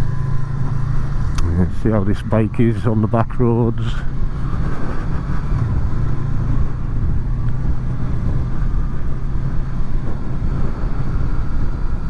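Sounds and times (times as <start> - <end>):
motorcycle engine running: 0.0 - 12.0
road rumble: 0.0 - 12.0
wind: 0.0 - 12.0.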